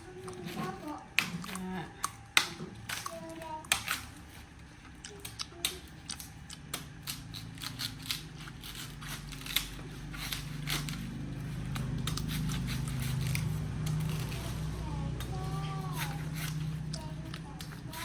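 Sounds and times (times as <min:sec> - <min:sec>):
sharp clicks and snips: 0:00.2 - 0:18.0.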